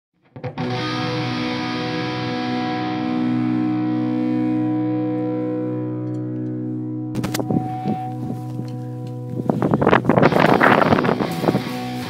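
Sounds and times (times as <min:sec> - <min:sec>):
distorted electric guitar chord: 0:00.3 - 0:12.0.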